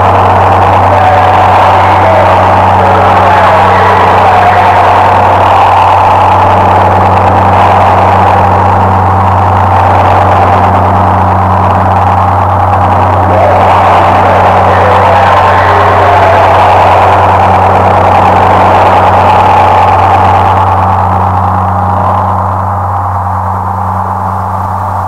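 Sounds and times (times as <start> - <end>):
distorted low drone: 0.0 - 25.0
harsh wavering noise: 0.0 - 25.0.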